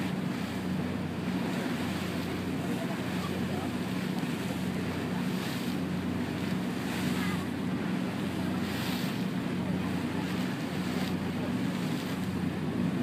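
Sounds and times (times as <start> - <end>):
boat engine hum: 0.0 - 13.0
water rushing past hull: 0.0 - 13.0.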